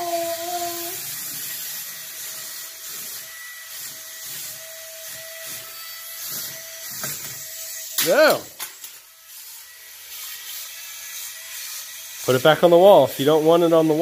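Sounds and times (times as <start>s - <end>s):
suction fan hiss and whine: 0.0s - 14.0s.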